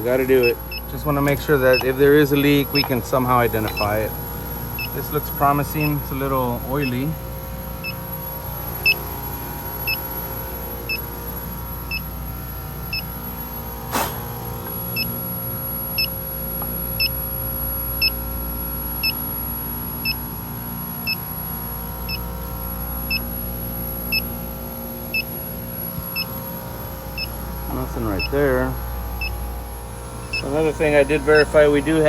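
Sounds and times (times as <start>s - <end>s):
leak detector beeping: 0.0s - 32.0s
machinery hum: 0.0s - 32.0s.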